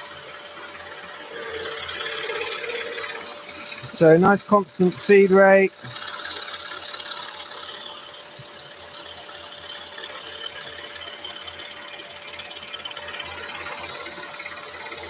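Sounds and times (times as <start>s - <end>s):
scroll saw cutting plywood: 0.0s - 15.0s.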